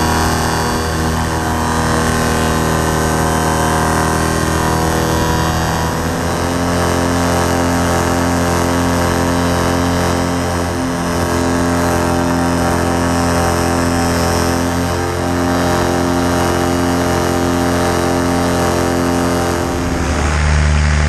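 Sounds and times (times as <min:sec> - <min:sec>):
paramotor engine droning: 0:00.0 - 0:21.0.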